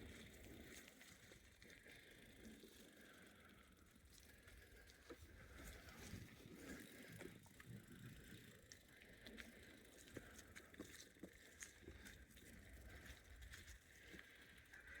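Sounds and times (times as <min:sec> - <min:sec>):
rolling bicycle tyres: 0:00.0 - 0:15.0
small clicks and crackles: 0:00.0 - 0:15.0.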